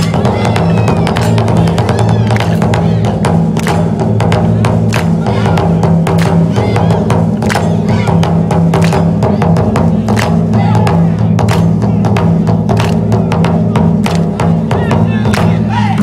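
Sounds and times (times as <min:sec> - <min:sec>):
taiko drums played together: 0:00.0 - 0:16.0.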